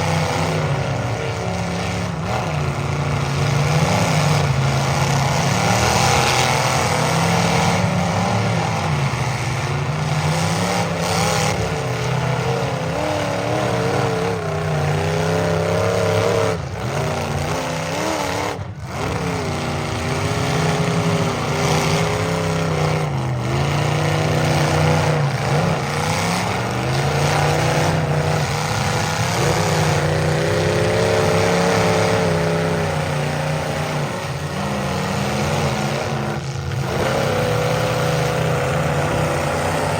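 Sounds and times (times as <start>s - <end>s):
car engines revving: 0.0s - 39.9s
cars ramming: 0.0s - 39.9s.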